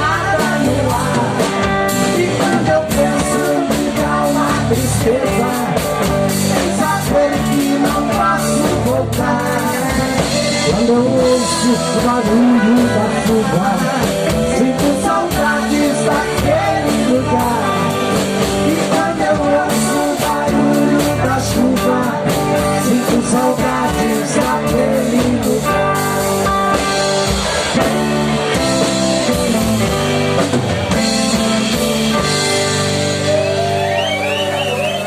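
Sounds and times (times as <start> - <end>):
person singing: 0.0 - 27.0, 30.9 - 35.0
bass: 0.0 - 35.0
drum kit: 0.0 - 35.0
electric guitar lead: 0.0 - 35.0.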